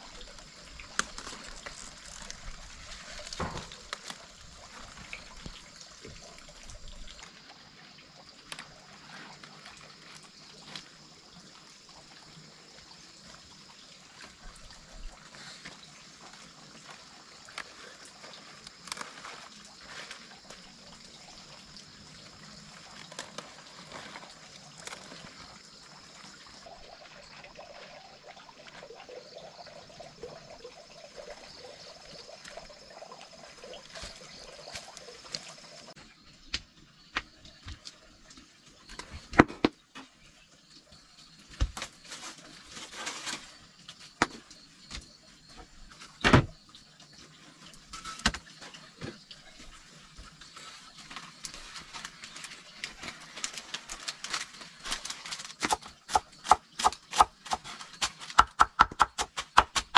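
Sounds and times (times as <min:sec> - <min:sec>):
water trickling and sloshing: 0:00.0 - 0:58.4.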